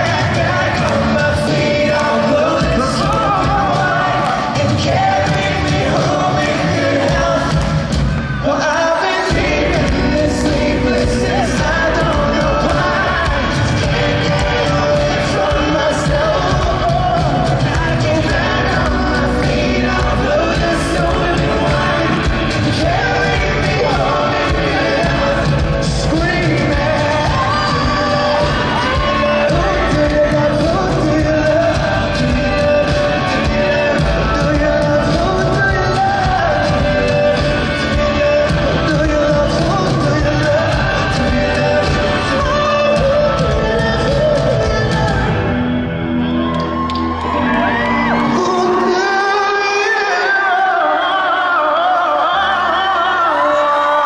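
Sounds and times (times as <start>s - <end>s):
crowd shouting along: 0.0s - 38.7s, 46.0s - 54.0s
live pop-rock band: 0.0s - 54.0s.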